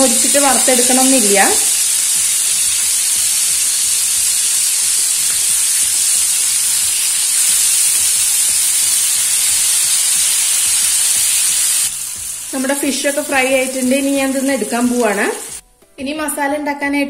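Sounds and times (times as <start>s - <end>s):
fish sizzling in oil: 0.0s - 15.6s.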